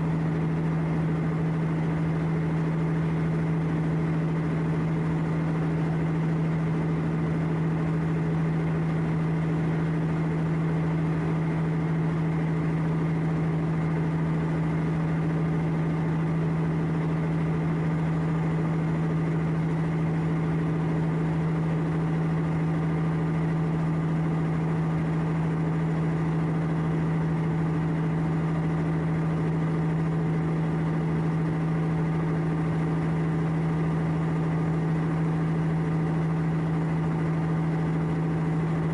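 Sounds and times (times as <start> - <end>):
ship diesel engine humming: 0.0 - 38.9.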